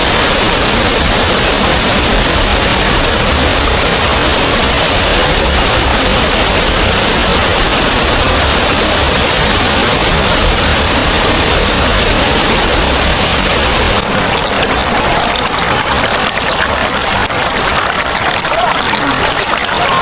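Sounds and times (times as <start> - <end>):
deep water rumble: 0.0 - 20.0
water rushing down waterfall: 0.0 - 20.0.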